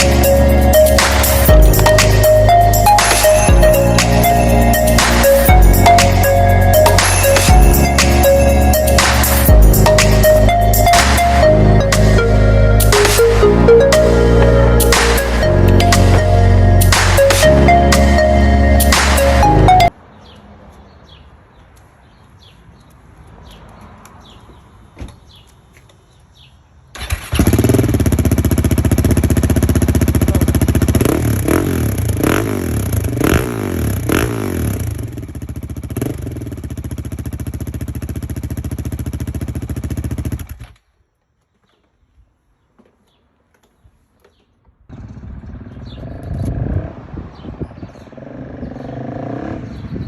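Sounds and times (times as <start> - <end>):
motorcycle engine idling and revving: 0.0 - 21.2, 26.9 - 41.0, 44.3 - 50.0.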